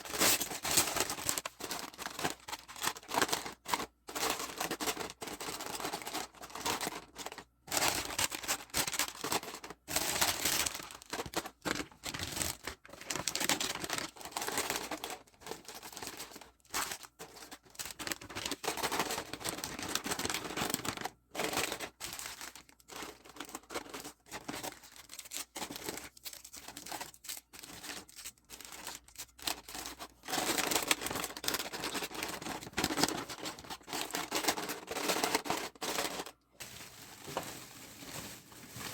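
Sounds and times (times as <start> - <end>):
packaging crinkling and tearing: 0.0 - 38.9.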